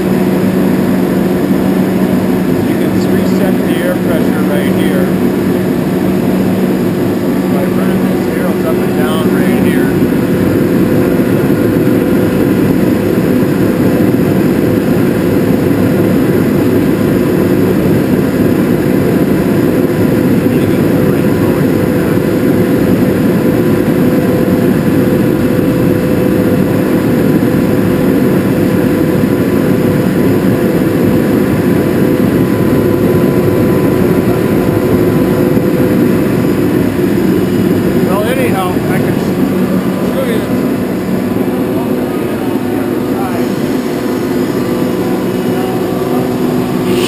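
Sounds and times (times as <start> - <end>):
air compressor running: 0.0 - 47.0.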